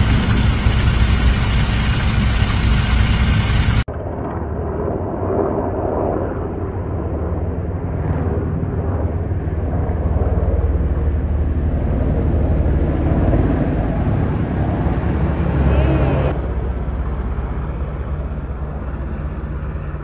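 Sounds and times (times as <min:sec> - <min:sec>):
helicopter flying past: 0:00.0 - 0:20.0.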